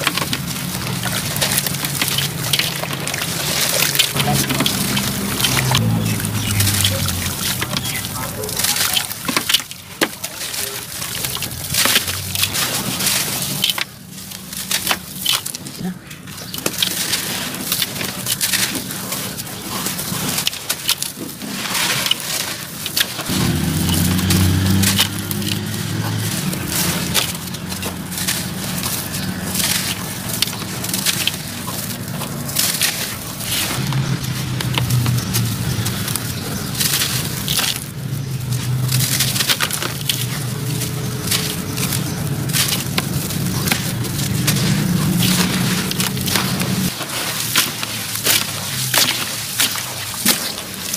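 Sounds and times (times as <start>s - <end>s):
cement chunks crunching by hand: 0.0s - 50.9s
crumbs falling into water: 0.0s - 50.9s.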